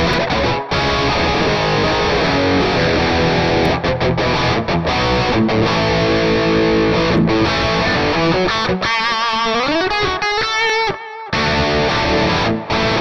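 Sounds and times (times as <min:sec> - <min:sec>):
distorted electric guitar riffs: 0:00.0 - 0:13.0.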